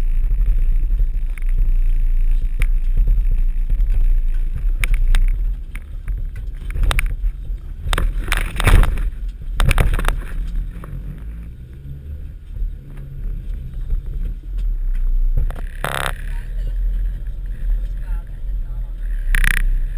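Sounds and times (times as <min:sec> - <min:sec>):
van body rattling over bumps: 0:00.0 - 0:19.9
van engine rumble: 0:00.0 - 0:19.9.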